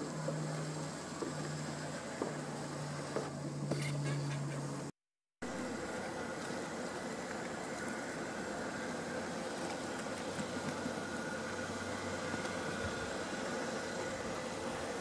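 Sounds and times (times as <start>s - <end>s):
distant motor humming: 0.0s - 15.0s.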